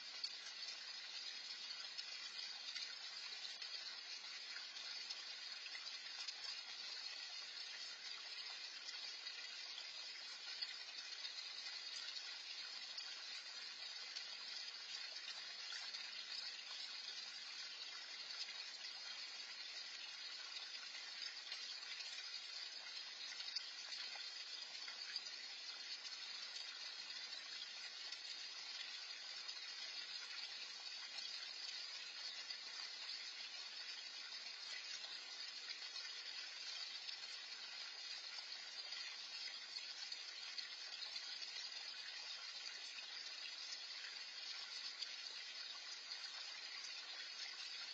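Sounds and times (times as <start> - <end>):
fountain splashing into pond: 0.0 - 47.9.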